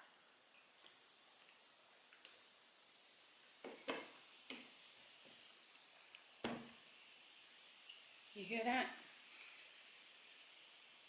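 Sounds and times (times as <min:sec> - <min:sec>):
faint sizzling hiss: 0:00.0 - 0:11.0.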